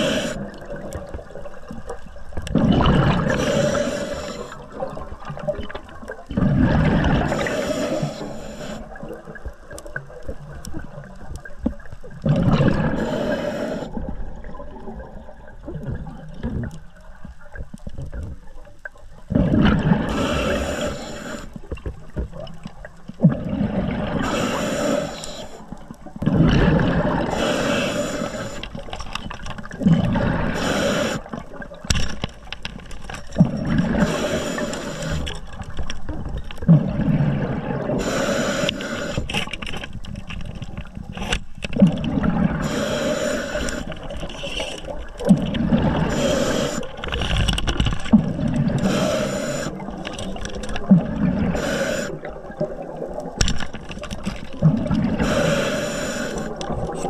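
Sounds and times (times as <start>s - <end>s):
underwater bubbling: 0.0s - 57.0s.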